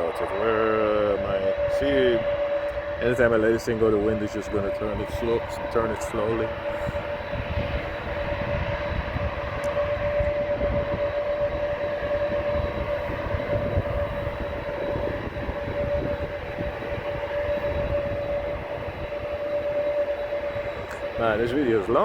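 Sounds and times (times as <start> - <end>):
jet airliner engines running: 0.0 - 22.0
wind buffeting microphone: 0.0 - 22.0.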